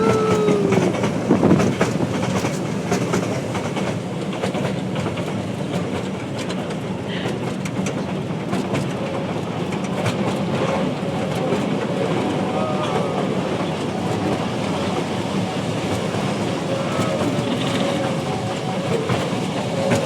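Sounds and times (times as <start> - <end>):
train rumbling: 0.0 - 20.0
wheels clicking on rails: 0.0 - 20.0.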